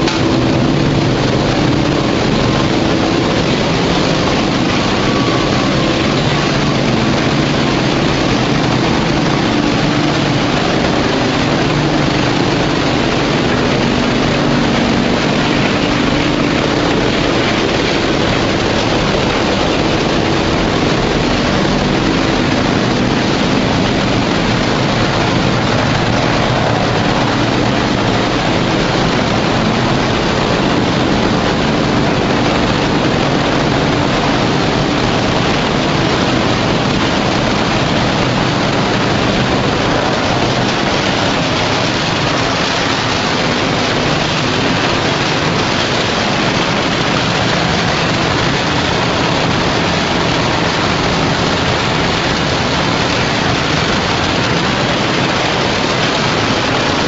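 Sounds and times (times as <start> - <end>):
low hum: 0.0 - 57.0
machinery running: 0.0 - 57.0.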